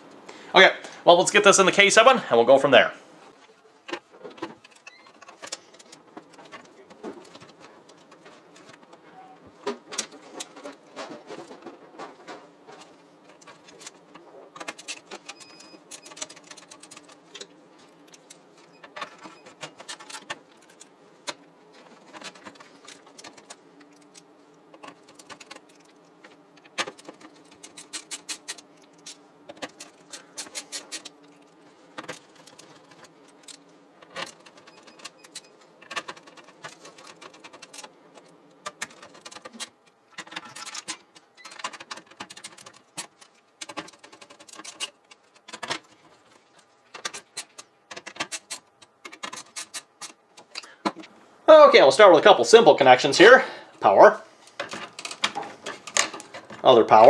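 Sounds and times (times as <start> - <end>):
clicks and metallic rattles: 3.8 - 51.1, 54.5 - 57.0.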